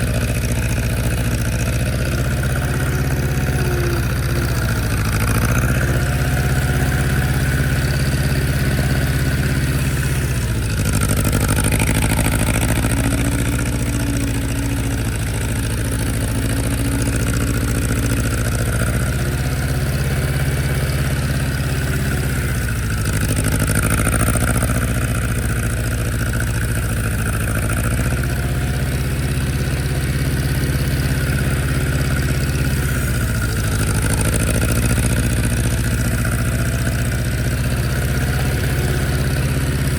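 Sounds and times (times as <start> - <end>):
old tractor engine running: 0.0 - 39.9.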